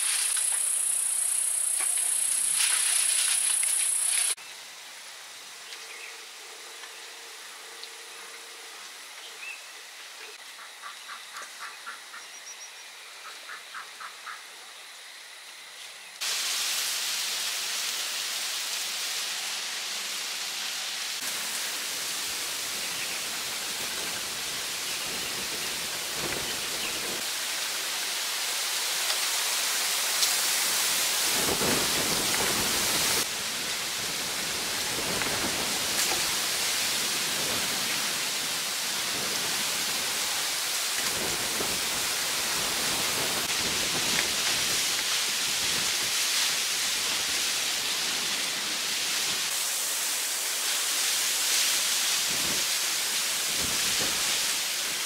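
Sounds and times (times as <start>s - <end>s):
rushing hiss of water: 0.0s - 12.0s, 13.0s - 55.0s.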